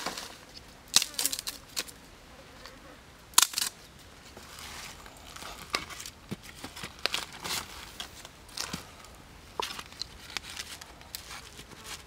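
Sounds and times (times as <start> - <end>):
sticks and leaves rustling: 0.0 - 2.2, 3.3 - 12.0
twig fire crackling: 0.0 - 2.2, 3.3 - 12.0.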